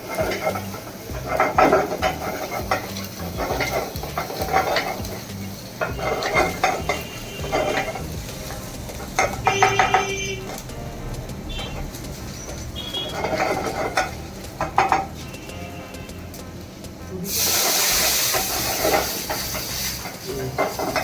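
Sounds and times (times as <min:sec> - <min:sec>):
food sizzling: 0:00.0 - 0:21.0
metal spatula scraping a pan: 0:00.0 - 0:21.0.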